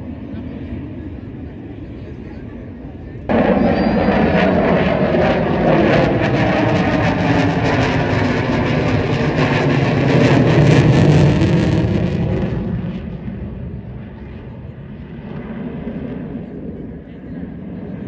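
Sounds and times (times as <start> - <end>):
jet aircraft roaring past: 0.0 - 18.0.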